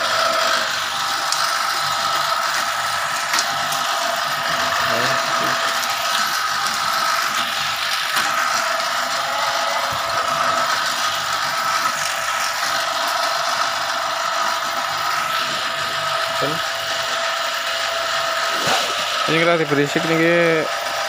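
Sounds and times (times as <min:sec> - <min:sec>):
motor whine: 0:00.0 - 0:21.0.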